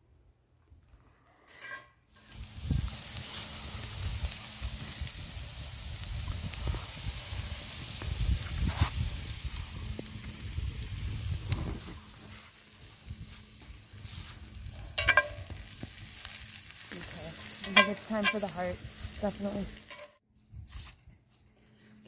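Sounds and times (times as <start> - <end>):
vegetables sizzling in a skillet: 2.1 - 20.2.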